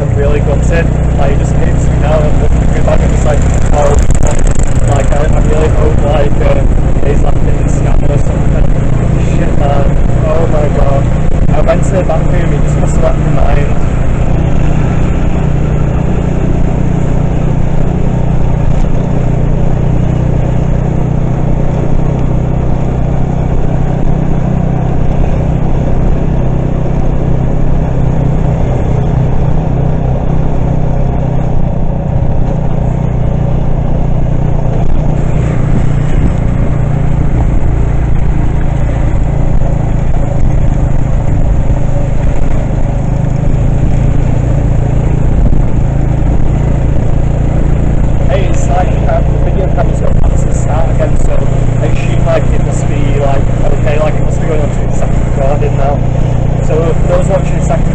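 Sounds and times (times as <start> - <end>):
road noise: 0.0 - 57.9
vehicle engine droning: 0.0 - 57.9.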